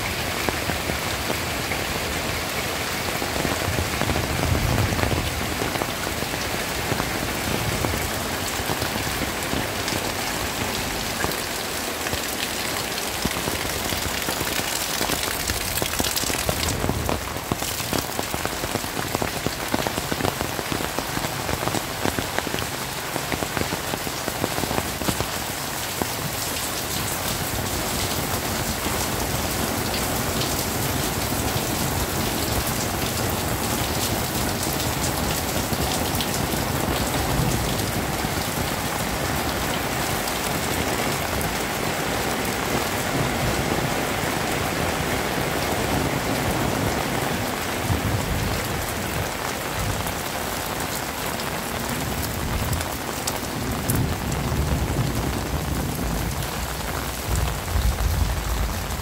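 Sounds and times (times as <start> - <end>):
heavy rain: 0.0 - 59.0
raindrops ticking on surfaces: 0.0 - 59.0.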